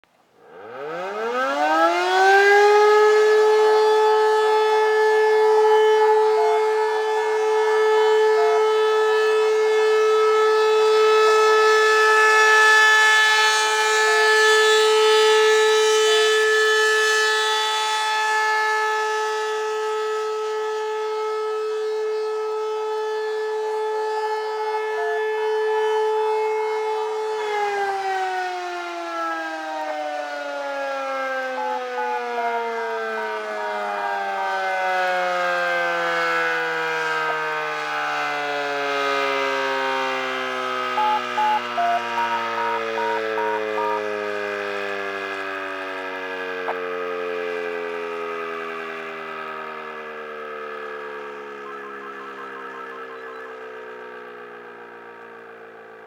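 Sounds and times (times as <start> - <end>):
air raid siren wailing: 0.4 - 56.0.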